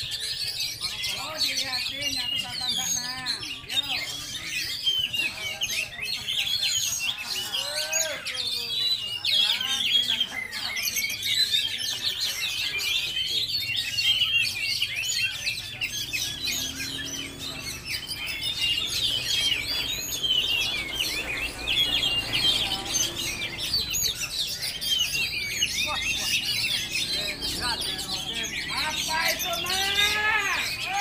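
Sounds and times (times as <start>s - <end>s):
many songbirds chirping and whistling: 0.0s - 31.0s.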